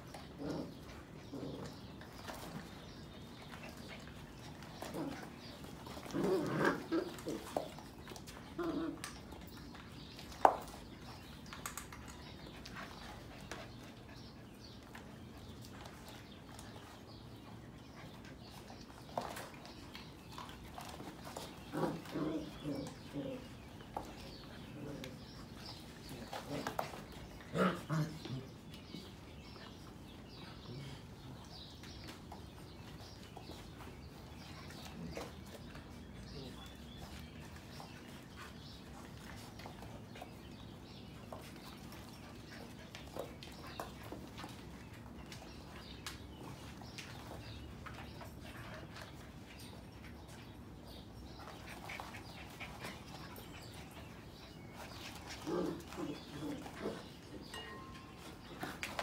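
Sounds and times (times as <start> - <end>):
paws clicking on the floor: 0.0 - 59.0
puppies scuffling: 0.0 - 59.0.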